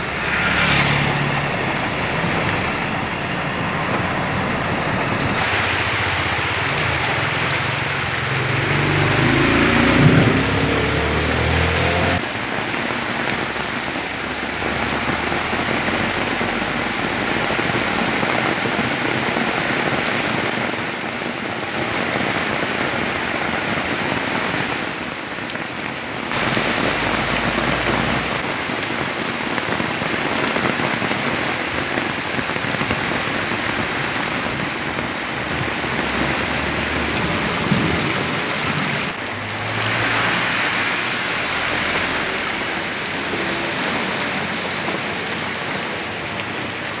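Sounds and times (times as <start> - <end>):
car tyres through water: 0.0 - 47.0
torrential rain on pavement: 0.0 - 47.0.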